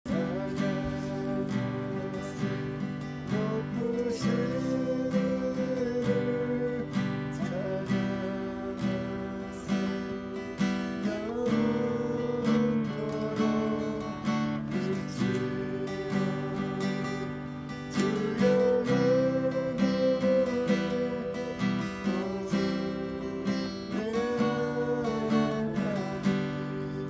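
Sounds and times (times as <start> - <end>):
acoustic guitar strumming chords: 0.1 - 27.0.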